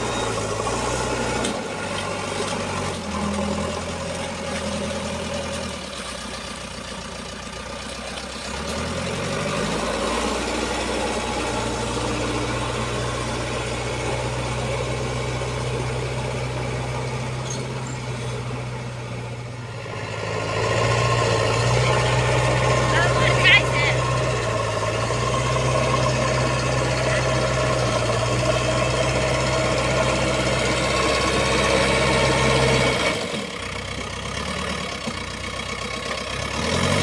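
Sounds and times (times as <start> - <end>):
diesel engine revving: 0.0 - 37.0.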